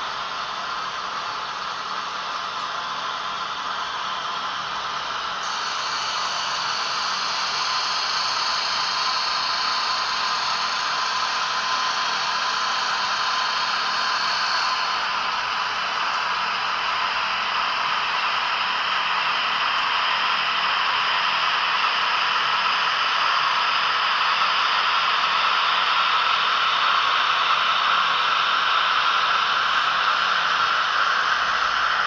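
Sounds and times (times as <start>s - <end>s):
model train running on track: 0.0s - 32.0s.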